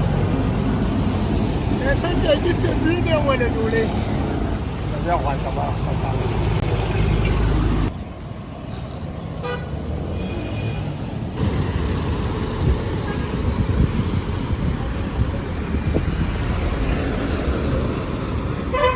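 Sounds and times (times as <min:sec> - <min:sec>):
road traffic passing: 0:00.0 - 0:18.9.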